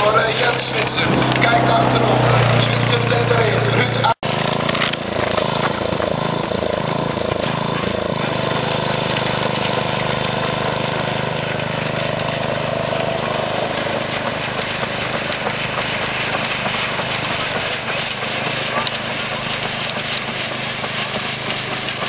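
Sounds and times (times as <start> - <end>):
small tractor engine running: 0.0 - 22.0
rotary brush sweeping ice: 4.2 - 22.0.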